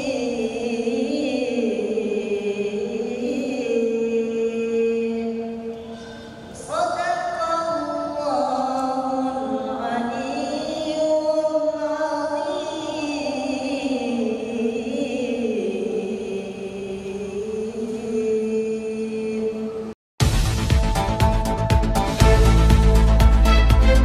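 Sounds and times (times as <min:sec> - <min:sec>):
boy reciting melodically: 0:00.0 - 0:19.7.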